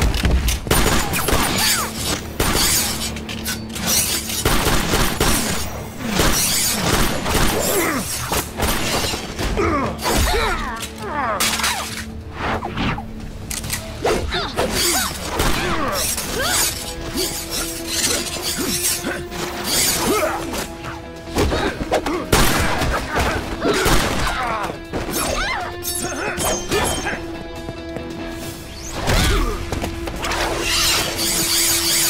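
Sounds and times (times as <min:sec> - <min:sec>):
dramatic orchestral score: 0:00.0 - 0:32.0.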